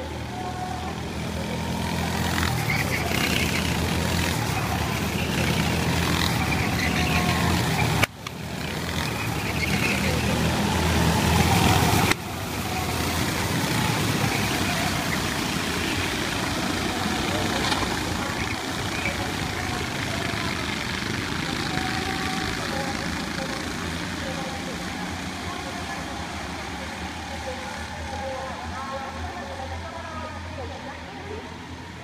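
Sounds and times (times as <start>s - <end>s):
go-kart engines buzzing: 0.0s - 32.0s.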